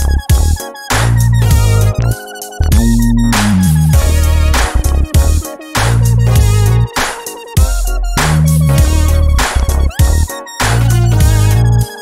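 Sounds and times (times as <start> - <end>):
electronic music with heavy bass: 0.1 - 7.0, 7.6 - 12.0.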